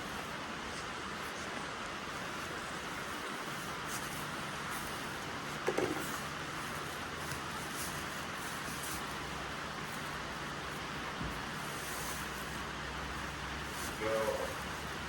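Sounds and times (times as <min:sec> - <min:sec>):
rushing background noise: 0:00.0 - 0:15.0.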